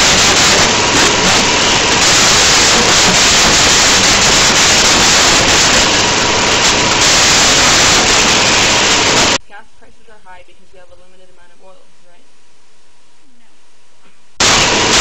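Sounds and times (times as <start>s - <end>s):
loud static hiss: 0.0s - 15.0s.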